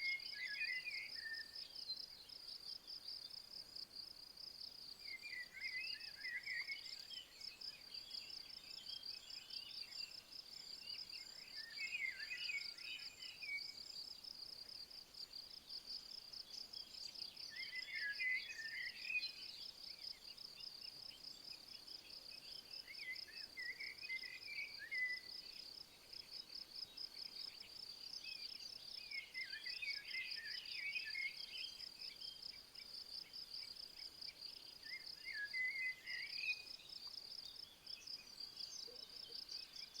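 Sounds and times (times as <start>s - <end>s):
crickets chirping: 0.1s - 40.0s.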